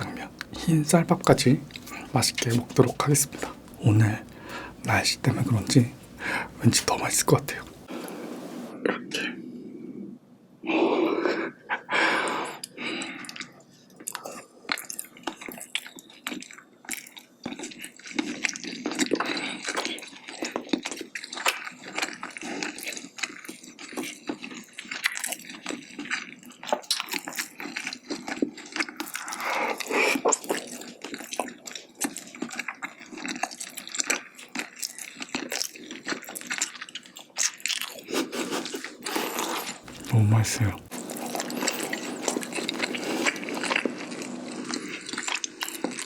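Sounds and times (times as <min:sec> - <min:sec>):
chewing and mouth sounds: 0:00.0 - 0:08.7, 0:12.6 - 0:46.0.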